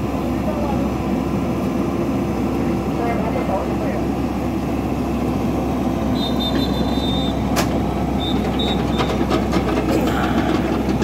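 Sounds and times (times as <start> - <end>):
buggy engine running: 0.0 - 11.0
excavator engine: 0.0 - 11.0.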